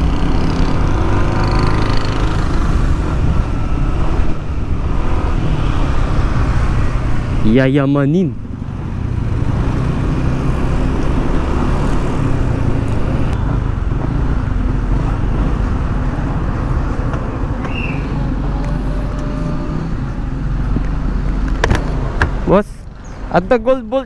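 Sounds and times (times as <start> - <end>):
traffic and road noise: 0.0 - 24.0.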